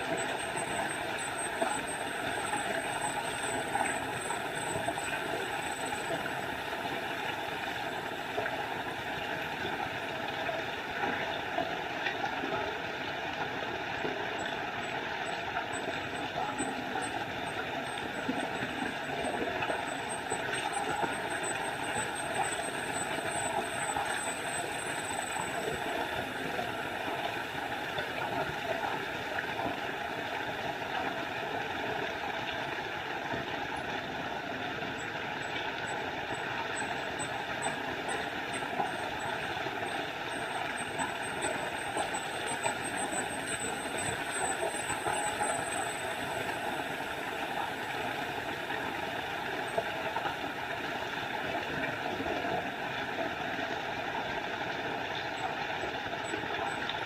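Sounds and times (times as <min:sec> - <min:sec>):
small waterfall rushing: 0:00.0 - 0:57.0.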